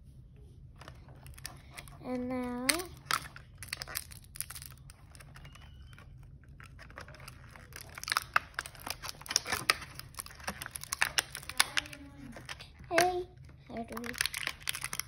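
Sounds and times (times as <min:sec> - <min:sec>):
plastic packaging crinkling: 0:00.8 - 0:15.0.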